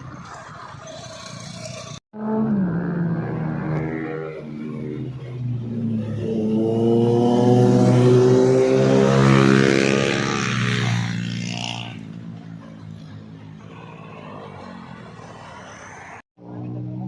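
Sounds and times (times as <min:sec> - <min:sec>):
motorcycle engine accelerating: 0:01.6 - 0:15.6.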